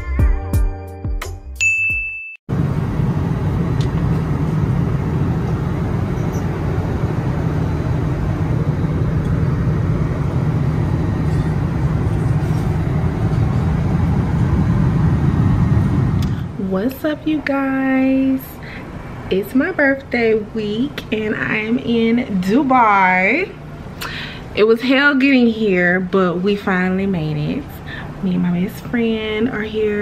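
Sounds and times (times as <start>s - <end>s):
airliner cabin noise: 2.5s - 30.0s.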